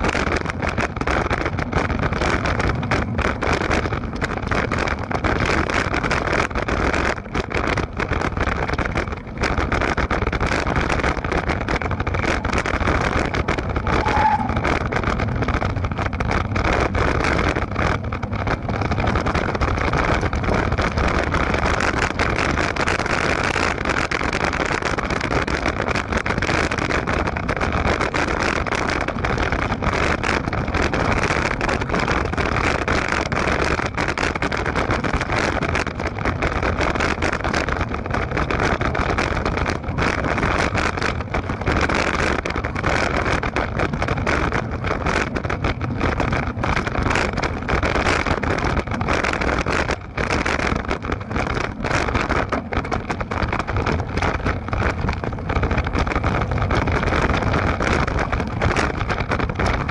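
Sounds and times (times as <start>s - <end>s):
microphone handling crackles: 0.0s - 59.9s
wind buffeting microphone: 0.0s - 59.9s.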